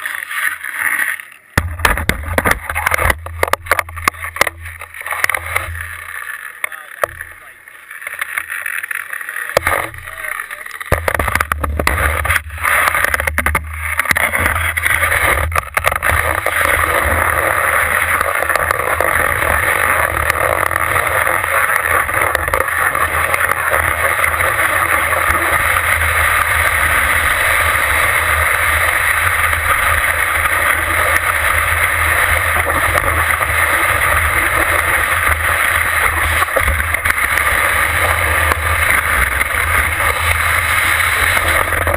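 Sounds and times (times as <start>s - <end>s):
skis gliding over snow: 0.0s - 41.9s.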